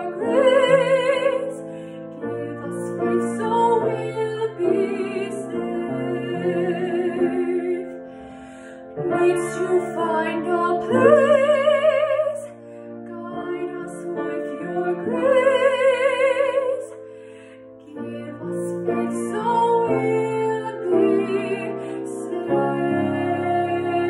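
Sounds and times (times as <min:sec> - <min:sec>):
woman singing with vibrato: 0:00.0 - 0:08.0, 0:09.0 - 0:12.5, 0:13.1 - 0:17.0, 0:17.9 - 0:24.0.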